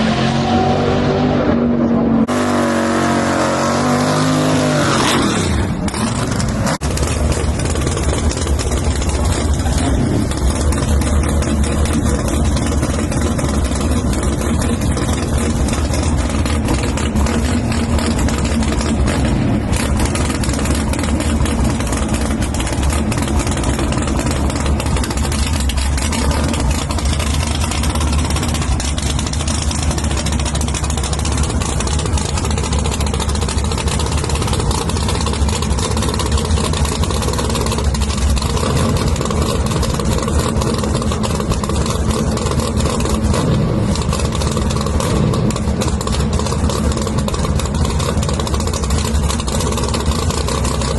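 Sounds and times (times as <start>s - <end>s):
race car engine idling: 5.7s - 50.9s.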